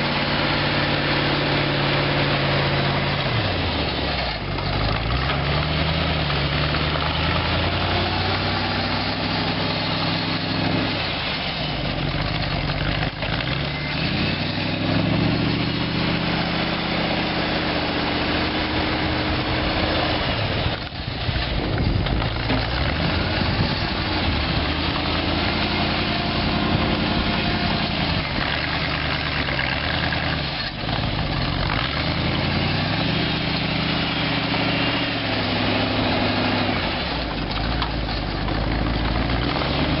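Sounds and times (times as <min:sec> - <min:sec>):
tractor engine revving: 0:00.0 - 0:40.0.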